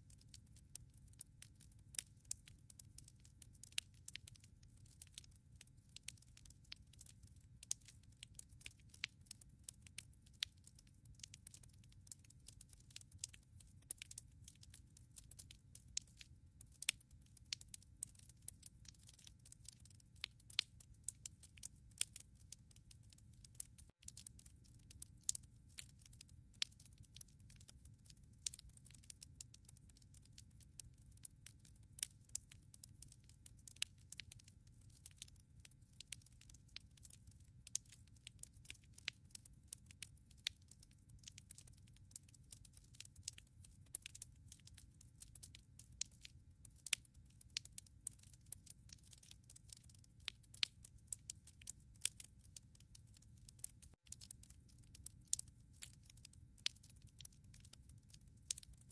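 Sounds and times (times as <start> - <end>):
wood logs crackling and popping: 0.1 - 58.8.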